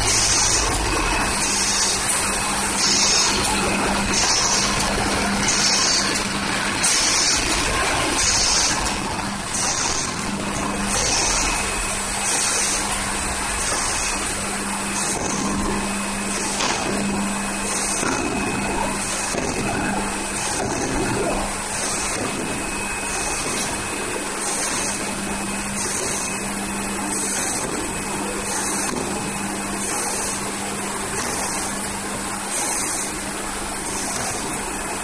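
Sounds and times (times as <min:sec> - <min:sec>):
machine whirring: 0:00.0 - 0:35.0.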